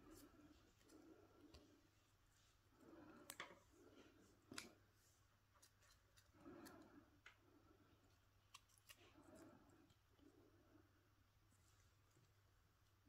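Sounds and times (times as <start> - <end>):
soft rustling of hands: 0.0 - 10.5, 11.4 - 13.0.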